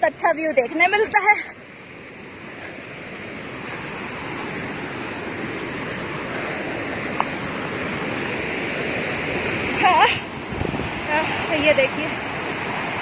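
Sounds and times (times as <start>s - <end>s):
river rapids roaring: 0.0s - 13.0s.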